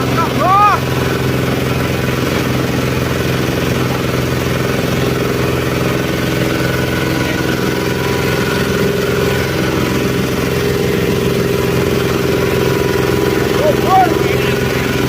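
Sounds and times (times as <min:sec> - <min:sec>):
shredder machine humming: 0:00.0 - 0:15.0.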